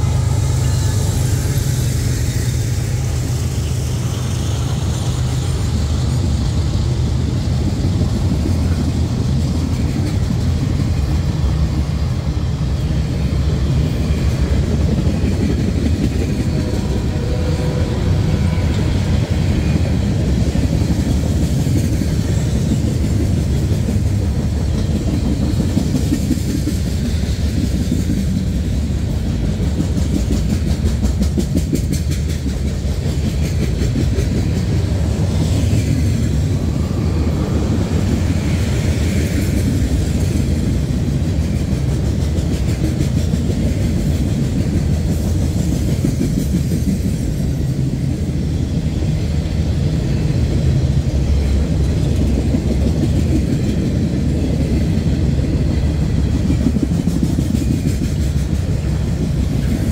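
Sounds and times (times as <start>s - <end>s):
train wheels clacking: 0.0s - 59.9s.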